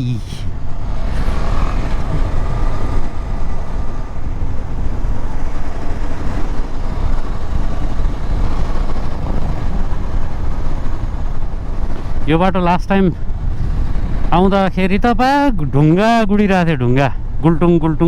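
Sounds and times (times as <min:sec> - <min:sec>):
motorcycle engine running: 0:00.0 - 0:15.2
wind buffeting microphone: 0:00.0 - 0:18.0.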